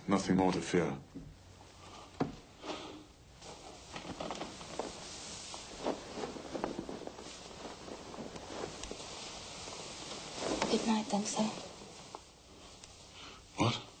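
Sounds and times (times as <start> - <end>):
soft footsteps: 0.6 - 13.2.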